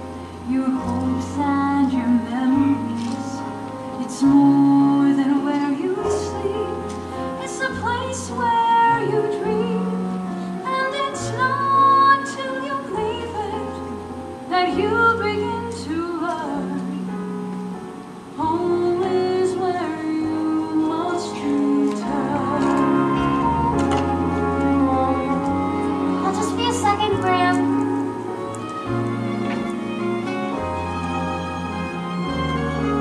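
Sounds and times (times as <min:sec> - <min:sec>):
woman singing: 0:00.4 - 0:17.5, 0:18.4 - 0:28.7.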